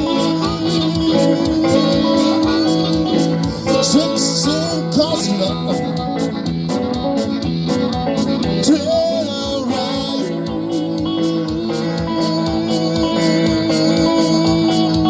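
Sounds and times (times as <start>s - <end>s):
electric guitar lead with bent notes: 0.0s - 15.0s
steady drum beat: 0.0s - 15.0s.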